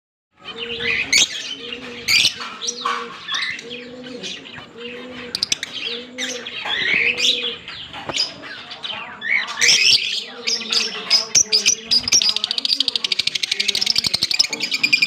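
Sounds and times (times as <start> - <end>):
lovebirds chirping and squeaking: 0.4 - 15.0.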